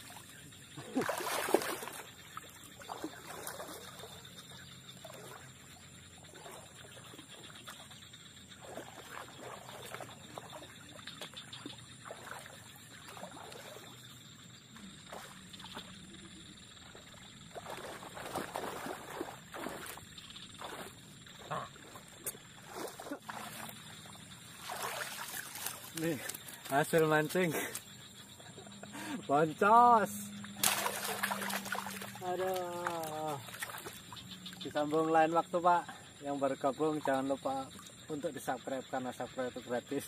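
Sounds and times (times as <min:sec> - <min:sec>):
water splashing while wading: 0:00.0 - 0:28.7, 0:30.0 - 0:35.1.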